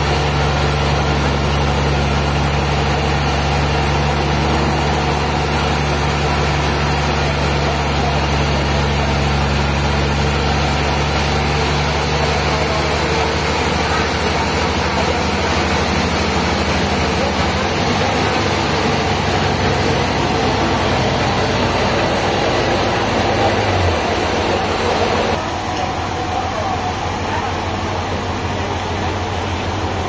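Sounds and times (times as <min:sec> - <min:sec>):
constant broad noise: 0:00.0 - 0:30.0
machine engine running: 0:00.0 - 0:30.0.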